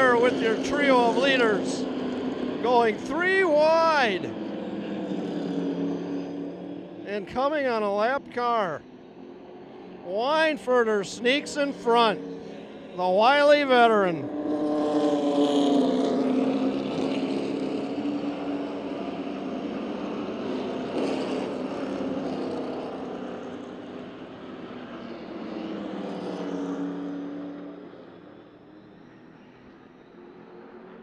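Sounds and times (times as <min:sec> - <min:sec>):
stock cars racing past: 0:00.0 - 0:31.0.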